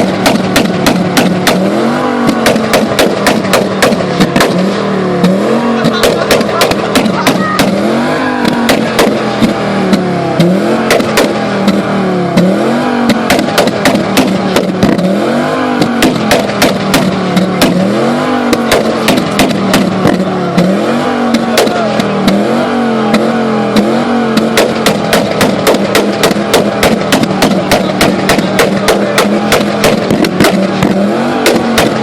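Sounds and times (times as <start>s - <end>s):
car engine revving: 0.0s - 32.0s
exhaust backfiring pops: 0.0s - 32.0s.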